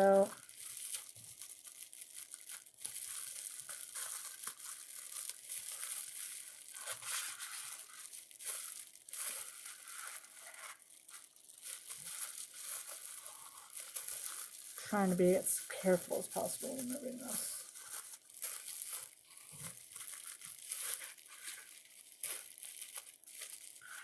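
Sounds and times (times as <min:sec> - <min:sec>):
packing material crinkling and tearing: 0:00.0 - 0:24.0.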